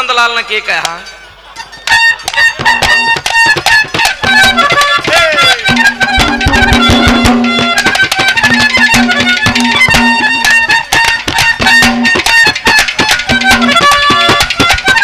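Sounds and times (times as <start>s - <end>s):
held instrumental melody: 0.9s - 15.0s
quick steady percussion: 1.7s - 15.0s.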